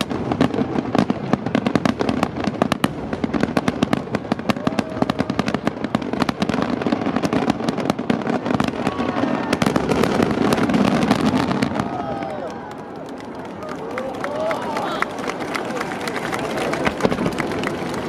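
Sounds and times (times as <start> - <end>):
fireworks bangs: 0.0 - 13.6, 14.8 - 18.0
fireworks rumble: 0.0 - 18.0.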